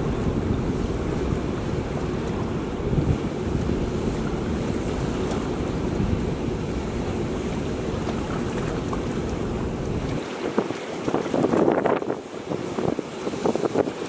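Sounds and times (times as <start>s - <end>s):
turbulent water rushing: 0.0s - 14.0s
wind buffeting microphone: 0.0s - 14.0s.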